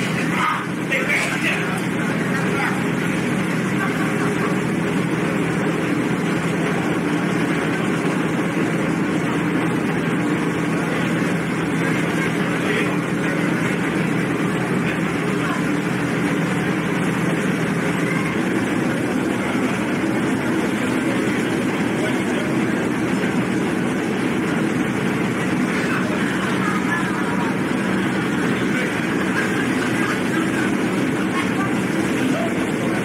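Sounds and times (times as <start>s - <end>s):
constant wash of noise: 0.0s - 33.0s
ferry engines humming: 0.0s - 33.0s.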